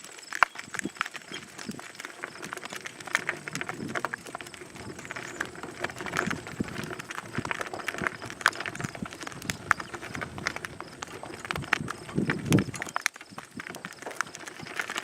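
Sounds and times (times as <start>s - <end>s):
hooves clip-clopping: 0.0s - 15.0s.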